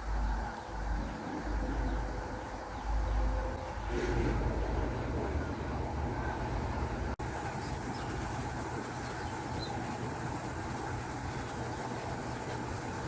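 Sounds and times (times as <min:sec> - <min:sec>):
steady machine noise: 0:00.0 - 0:13.0.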